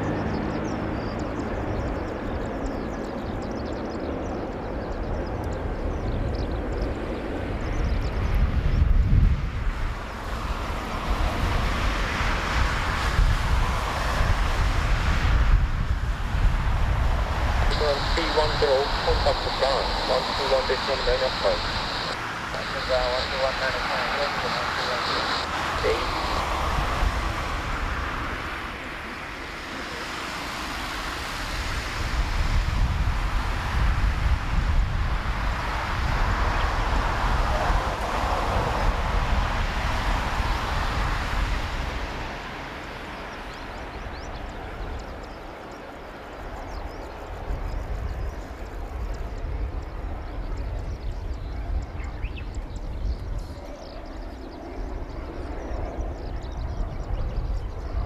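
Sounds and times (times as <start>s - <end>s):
wind buffeting microphone: 1.0s - 29.6s, 30.2s - 58.0s
jet engine rumble: 4.3s - 58.0s.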